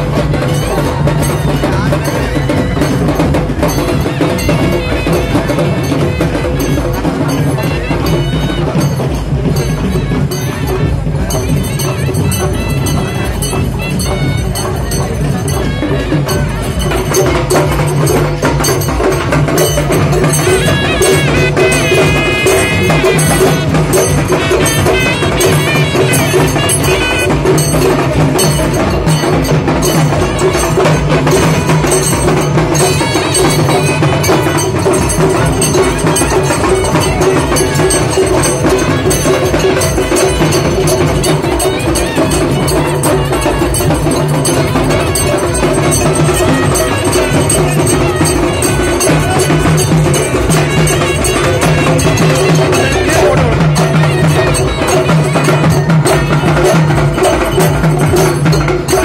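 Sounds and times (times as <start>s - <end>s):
barrel drums beaten with sticks: 0.0s - 59.0s
sharp clicking percussion: 0.0s - 59.0s.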